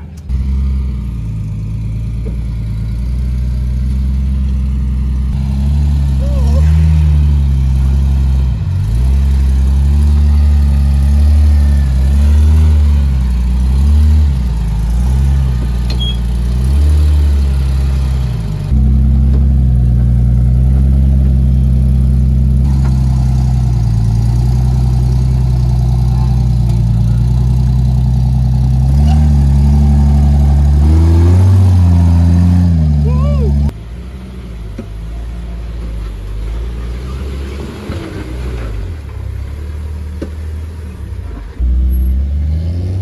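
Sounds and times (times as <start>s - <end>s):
suv engine revving: 0.0s - 43.0s.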